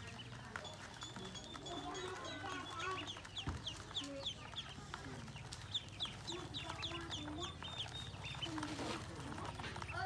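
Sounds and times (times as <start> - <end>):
ducklings peeping: 0.0 - 10.0.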